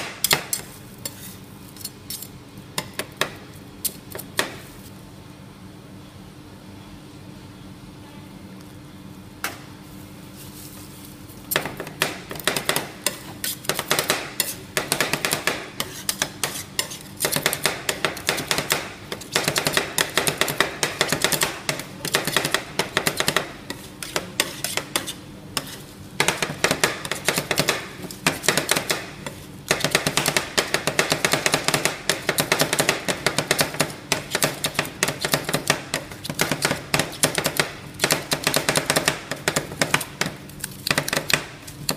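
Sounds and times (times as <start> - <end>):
metal spatulas chopping and scraping: 0.0 - 4.6, 11.5 - 41.9
steady low hum: 0.0 - 41.9.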